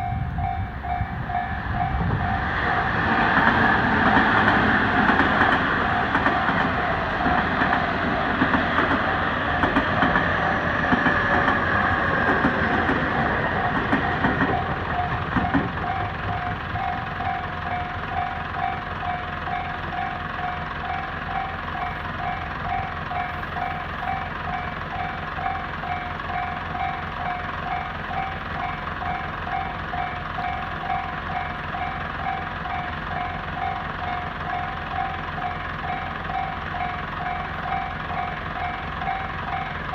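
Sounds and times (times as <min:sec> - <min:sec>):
level-crossing bell dinging: 0:00.0 - 0:03.2, 0:05.0 - 0:11.0, 0:12.8 - 0:39.9
train passing: 0:00.0 - 0:39.9.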